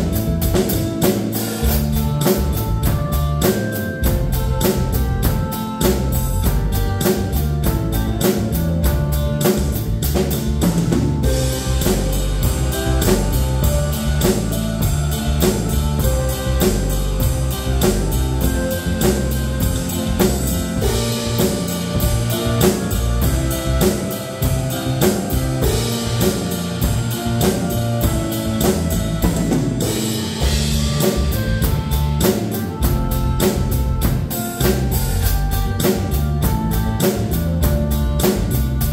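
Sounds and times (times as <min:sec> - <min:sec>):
backing track with guitar: 0:00.0 - 0:38.9
drum kit playing steady beat: 0:00.0 - 0:38.9.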